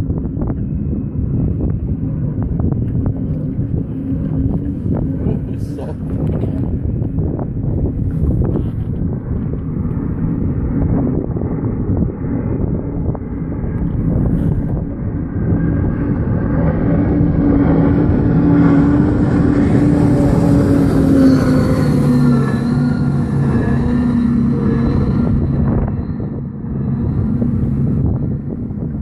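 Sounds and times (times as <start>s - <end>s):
powerboat engines passing: 0.0s - 29.0s.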